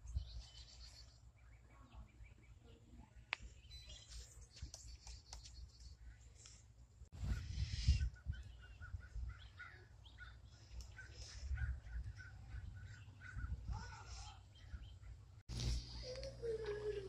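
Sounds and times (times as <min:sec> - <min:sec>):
birds chirping: 0:00.0 - 0:15.4.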